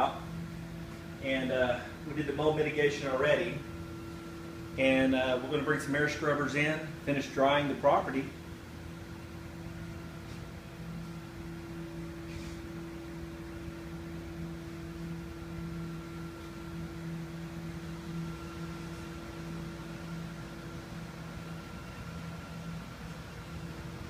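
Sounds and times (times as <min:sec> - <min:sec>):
electric fan motor hum: 0:00.0 - 0:24.0.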